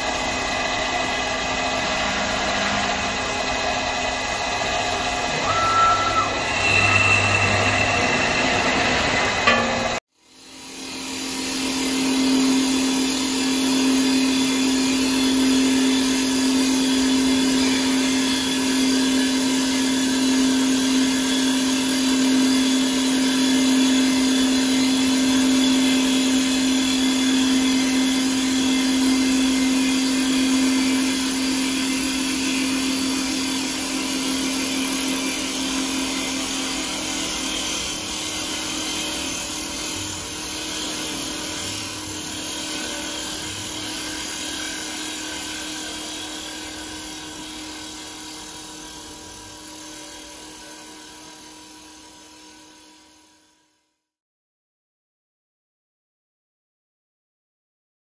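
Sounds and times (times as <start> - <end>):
wood lathe humming: 0.0 - 52.5.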